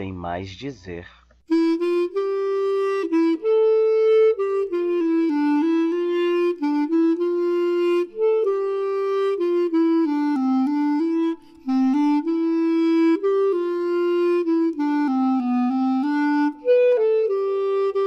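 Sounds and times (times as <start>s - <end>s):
wind instrument melody: 1.5s - 18.0s.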